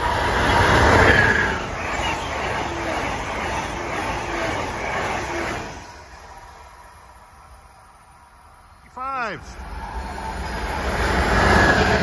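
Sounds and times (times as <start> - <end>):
passenger train passing: 0.0 - 12.0.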